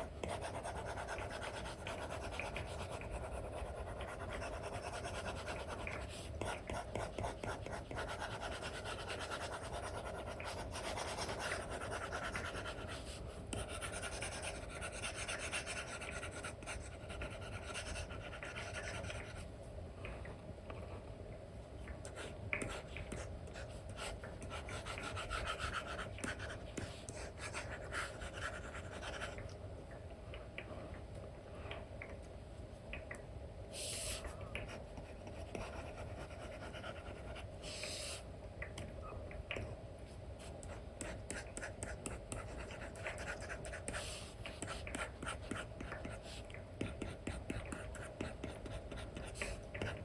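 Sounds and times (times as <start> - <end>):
stylus scratching and tapping on screen: 0.1 - 19.5, 22.0 - 29.5, 34.2 - 38.9, 39.5 - 50.0.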